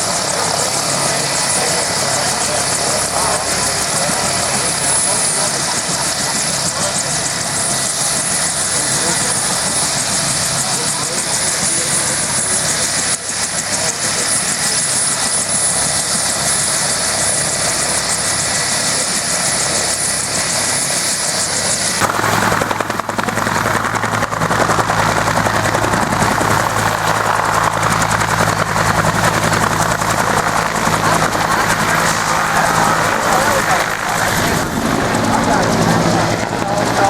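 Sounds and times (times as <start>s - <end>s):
helicopter engine and rotor: 0.0s - 37.0s.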